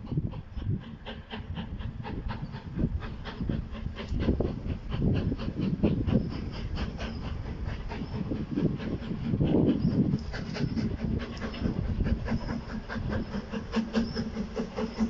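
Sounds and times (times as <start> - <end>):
low train rumble: 0.0 - 15.0
steam locomotive chuffing: 0.0 - 15.0.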